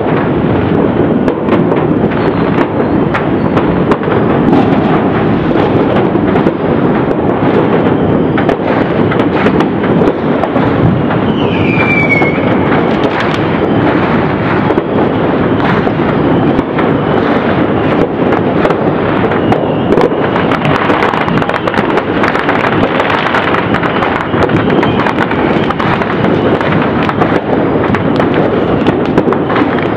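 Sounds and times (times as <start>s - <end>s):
distant fireworks crackling: 0.0s - 29.9s
falling firework whistle: 0.0s - 29.9s.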